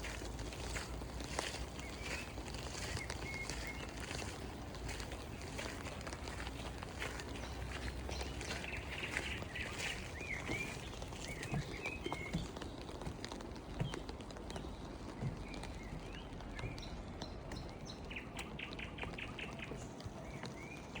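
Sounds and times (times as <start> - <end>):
birds chirping: 0.0 - 21.0
steady rain falling: 0.0 - 21.0.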